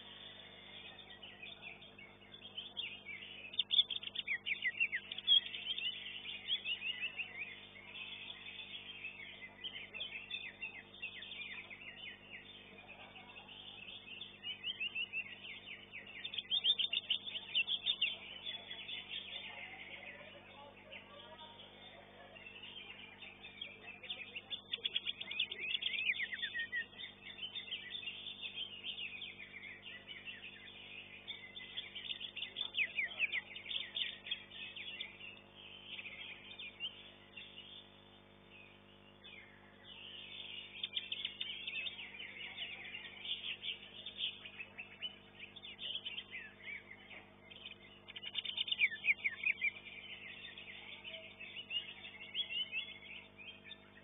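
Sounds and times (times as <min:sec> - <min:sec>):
bird singing chattering phrases: 0:00.0 - 0:54.0
faint low hum: 0:00.0 - 0:54.0.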